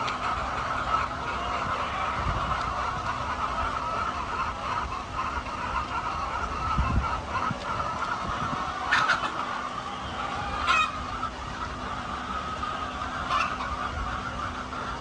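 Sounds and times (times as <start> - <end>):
chicken squawks: 0.0 - 15.0
chickens clucking: 0.0 - 15.0.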